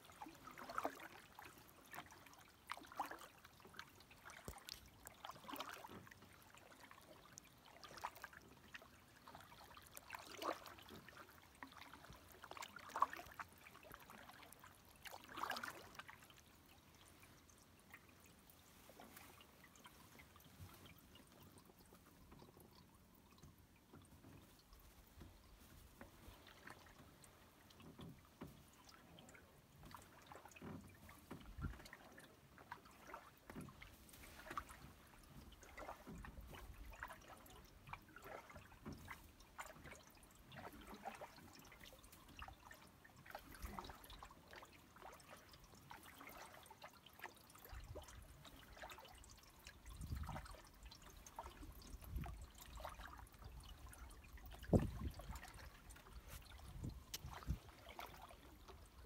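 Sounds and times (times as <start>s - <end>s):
ripples lapping against hull: 0.0s - 59.0s.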